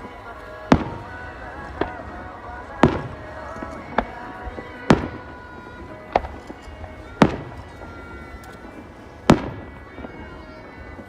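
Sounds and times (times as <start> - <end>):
fireworks bursting with echo: 0.0 - 11.0
pop music: 0.0 - 11.0.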